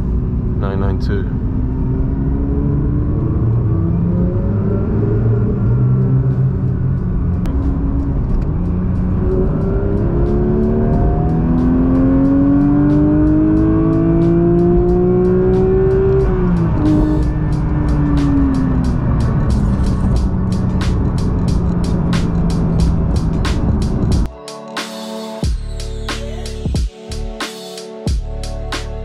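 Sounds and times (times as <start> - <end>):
car engine from inside cabin: 0.0 - 24.3.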